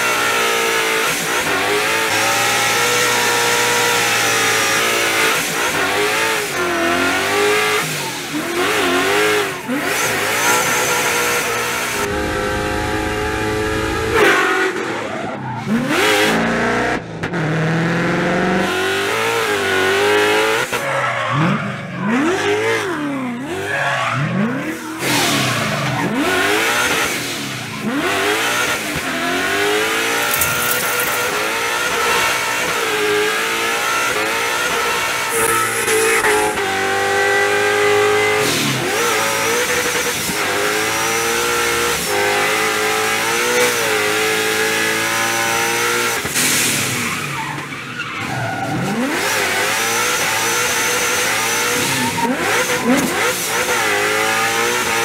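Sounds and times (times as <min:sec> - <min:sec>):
car engine revving: 0:00.1 - 0:47.1.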